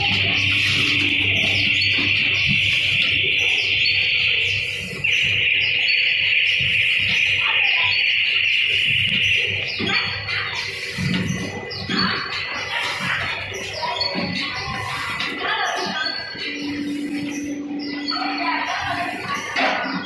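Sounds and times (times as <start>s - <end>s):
machine parts chirping: 0.0s - 20.0s.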